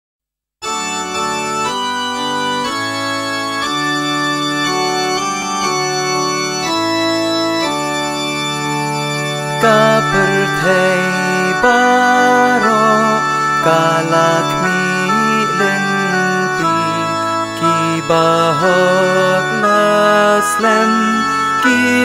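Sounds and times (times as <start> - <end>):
organ chords: 0.6 - 22.0
wavering melody line: 0.6 - 22.0.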